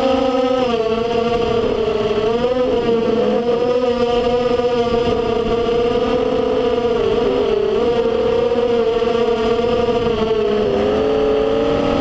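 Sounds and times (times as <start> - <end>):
drone propellers whining: 0.0 - 12.0
rushing noise under drone whine: 0.0 - 12.0.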